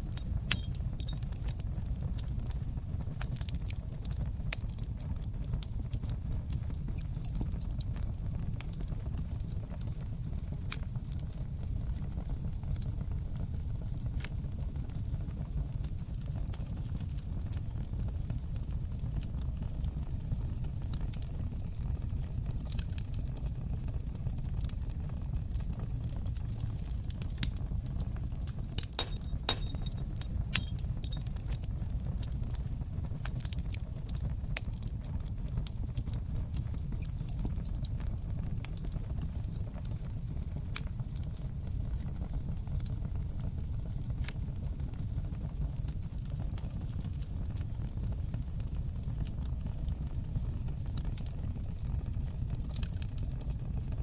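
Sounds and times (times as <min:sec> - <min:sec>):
fire crackling and popping: 0:00.0 - 0:54.0
fire rumbling: 0:00.0 - 0:54.0.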